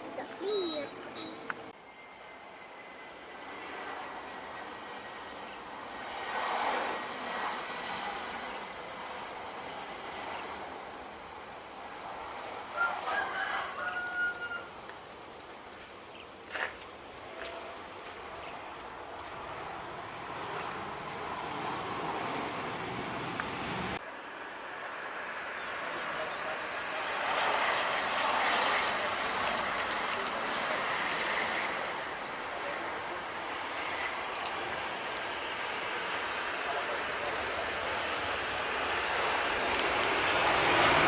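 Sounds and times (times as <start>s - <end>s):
high-pitched insect whine: 0.0s - 41.0s.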